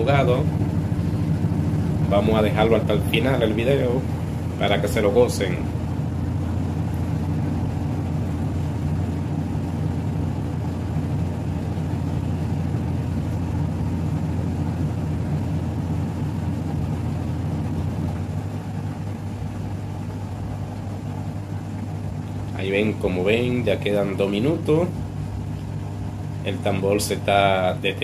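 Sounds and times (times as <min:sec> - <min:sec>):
washing machine spinning hum: 0:00.0 - 0:28.0.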